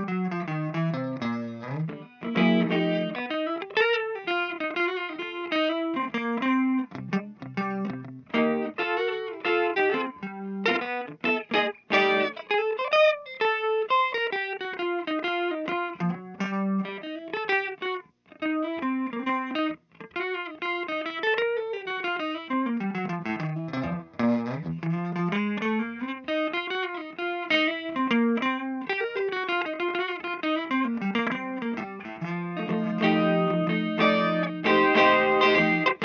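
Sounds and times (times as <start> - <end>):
guitar melody with gliding notes: 0.0 - 36.0.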